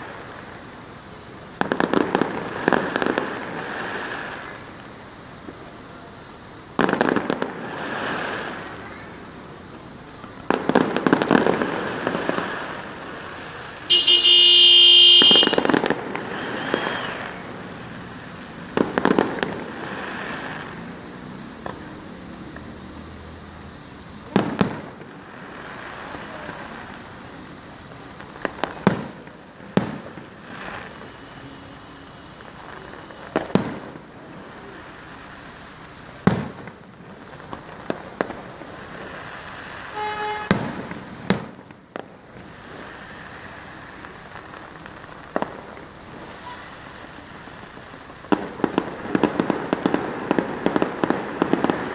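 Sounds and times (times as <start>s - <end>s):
fireworks bangs: 0.0s - 51.9s
steady hiss: 0.0s - 51.9s.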